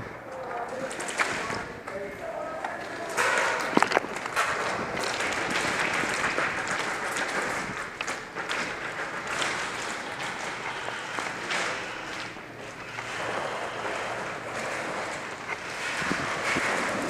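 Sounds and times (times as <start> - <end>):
pellets striking plywood walls: 2.8 - 17.0.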